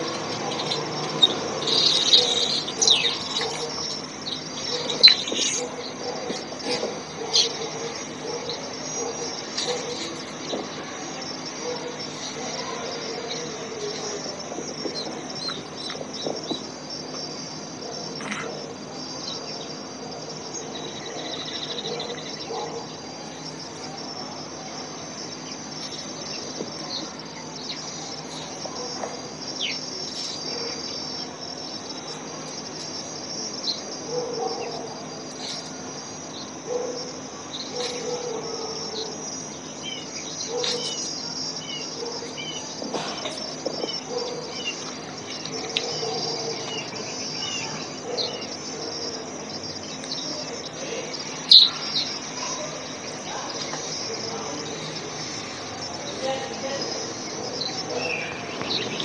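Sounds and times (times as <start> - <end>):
bird chirps: 0.0 - 24.0, 25.3 - 59.0
insect chorus trilling: 0.0 - 59.0.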